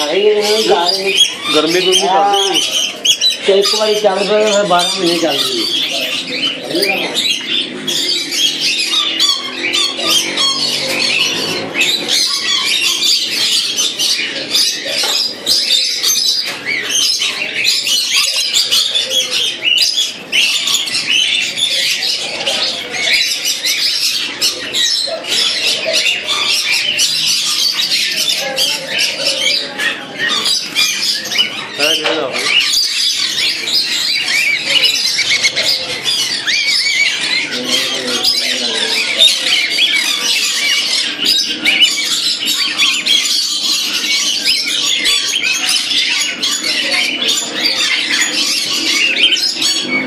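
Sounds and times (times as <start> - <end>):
parrots squawking and screeching: 0.0 - 50.0.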